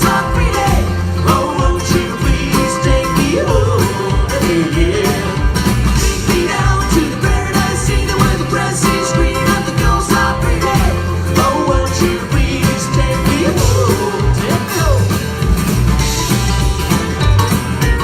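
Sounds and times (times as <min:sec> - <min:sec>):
acoustic band playing: 0:00.0 - 0:18.0
guitar: 0:00.0 - 0:18.0.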